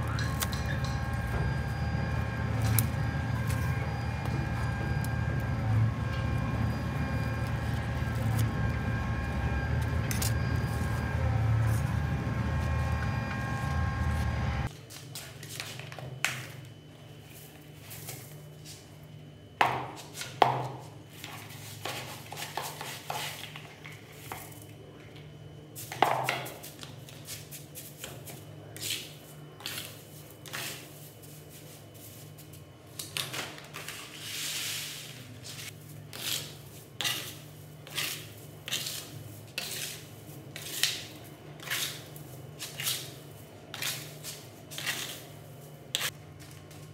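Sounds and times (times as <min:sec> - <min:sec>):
mechanical hum with held tones: 0:00.0 - 0:46.9.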